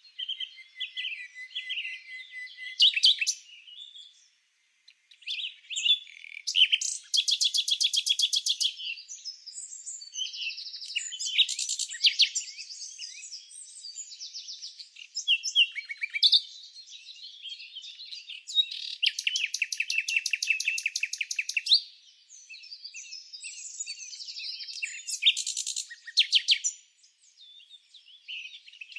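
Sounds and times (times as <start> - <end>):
songbirds chirping and singing: 0.0 - 28.9.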